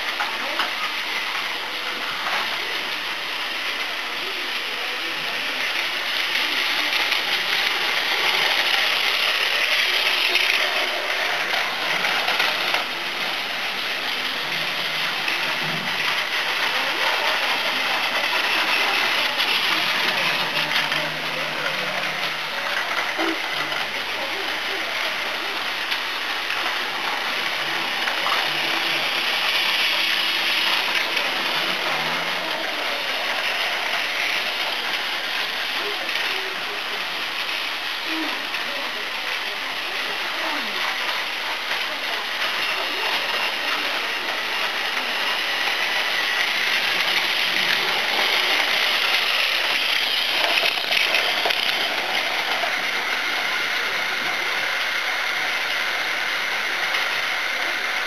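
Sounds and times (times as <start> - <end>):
toy trains whirring and rattling: 0.0 - 58.0.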